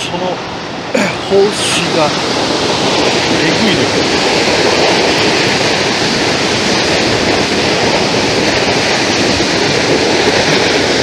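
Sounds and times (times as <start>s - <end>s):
water rushing over a dam: 0.0s - 11.0s.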